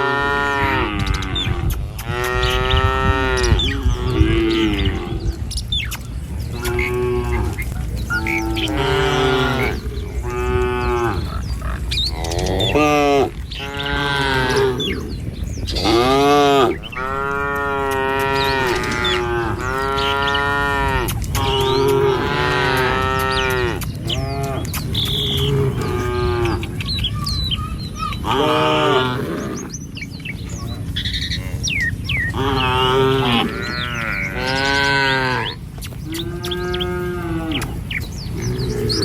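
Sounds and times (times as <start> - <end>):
cattle mooing: 0.0 - 5.5, 6.4 - 26.8, 27.9 - 29.8, 30.8 - 39.0
birds chirping faintly: 0.0 - 39.0.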